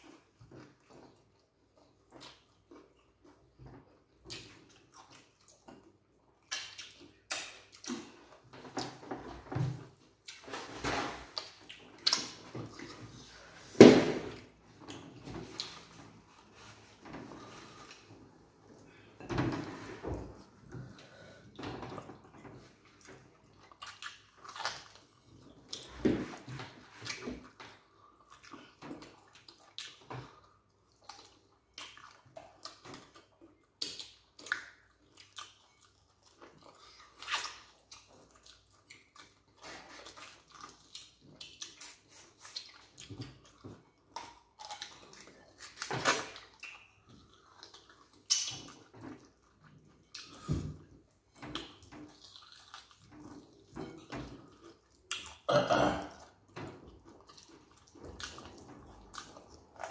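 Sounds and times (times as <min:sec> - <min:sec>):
wet chewing and slurping: 0:11.2 - 0:55.5, 0:56.1 - 0:59.9.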